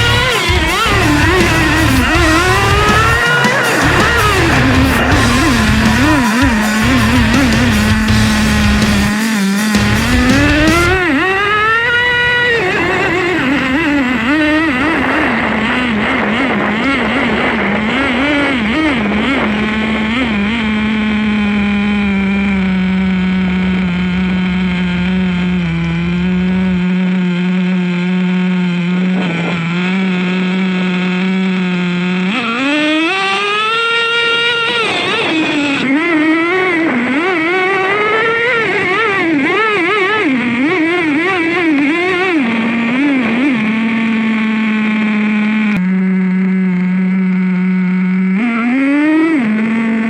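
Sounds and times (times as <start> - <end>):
small nitro engine revving: 0.0 - 50.0.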